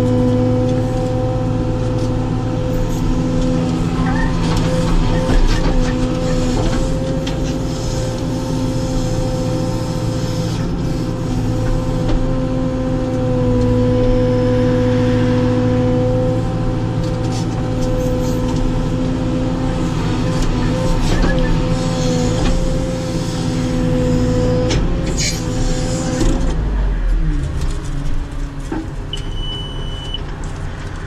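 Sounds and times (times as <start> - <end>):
diesel engine running under load: 0.0 - 31.0.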